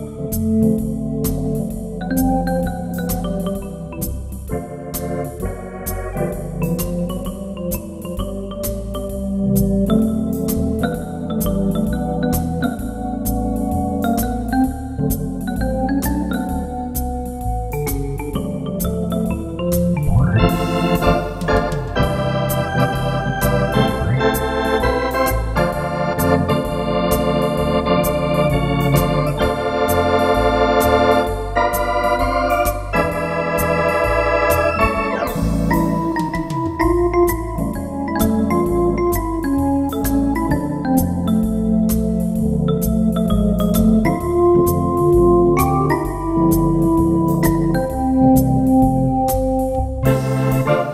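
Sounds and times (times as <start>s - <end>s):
electronic organ chords and melody: 0.0s - 50.9s
pedal bass line: 0.0s - 50.9s
steady ticking beat: 0.2s - 50.9s.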